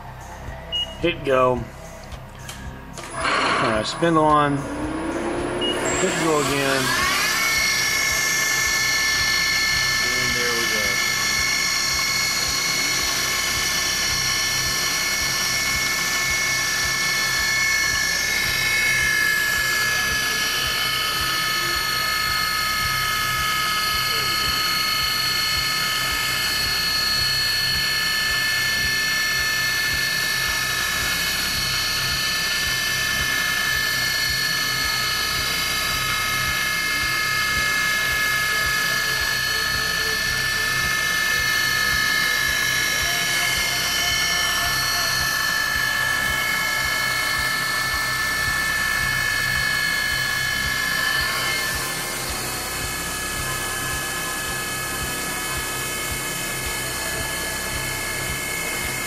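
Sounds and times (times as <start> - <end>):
mill spindle high-pitched whine: 0.0 - 59.0.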